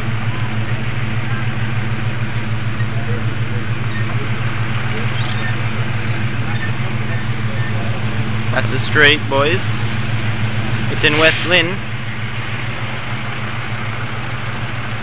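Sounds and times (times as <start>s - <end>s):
road noise: 0.0s - 15.0s
vehicle engine droning: 0.0s - 15.0s.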